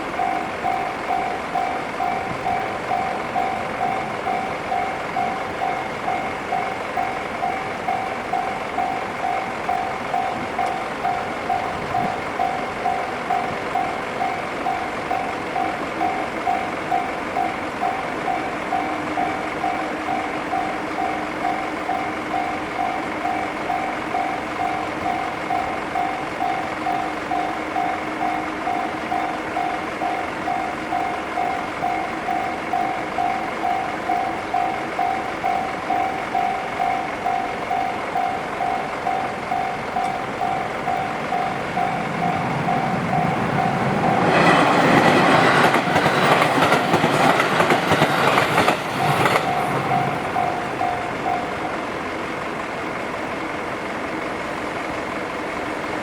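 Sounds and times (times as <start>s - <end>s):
level-crossing warning bell ringing: 0.0s - 56.0s.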